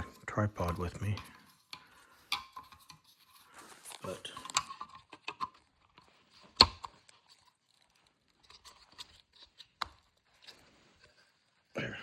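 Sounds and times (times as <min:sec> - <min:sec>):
plastic clicks and scraping: 0:00.0 - 0:11.6.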